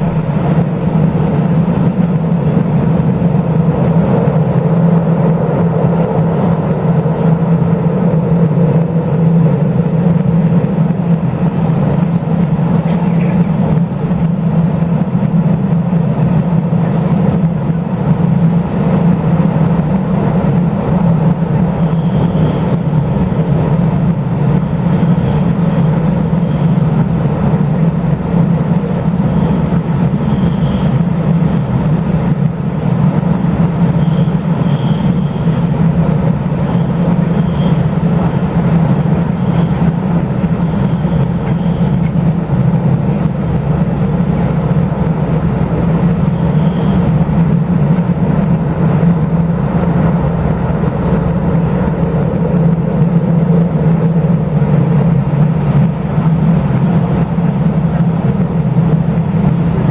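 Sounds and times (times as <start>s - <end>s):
train running noise inside carriage: 0.0s - 59.9s.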